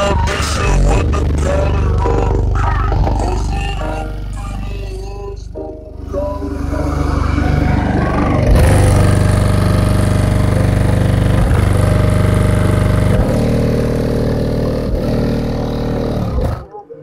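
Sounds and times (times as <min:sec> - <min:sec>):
loud bass notes through car speakers: 0:00.0 - 0:16.7.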